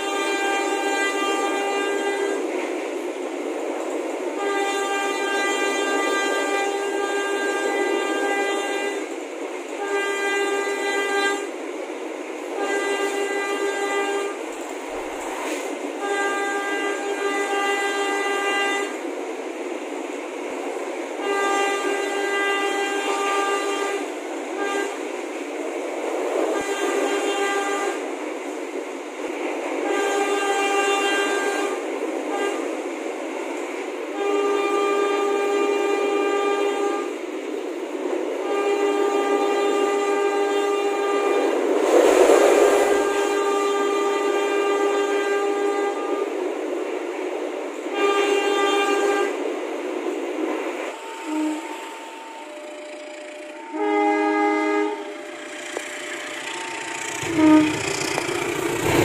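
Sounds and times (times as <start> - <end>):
train air horn blasts: 0.0 - 2.5, 4.3 - 11.6, 12.4 - 19.1, 21.1 - 25.4, 26.2 - 28.3, 29.2 - 37.2, 38.3 - 46.4, 47.9 - 49.5, 50.7 - 59.0.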